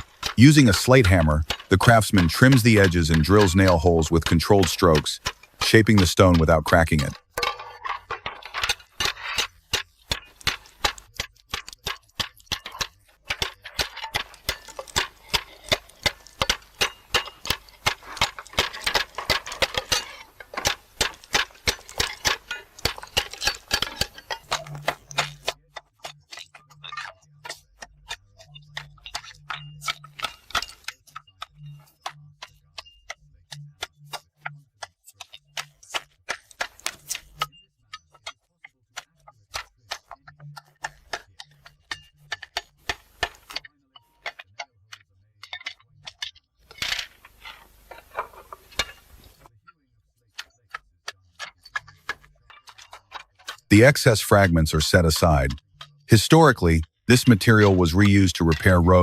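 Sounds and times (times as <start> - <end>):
hammer tapping slate on metal: 0.0 - 49.4.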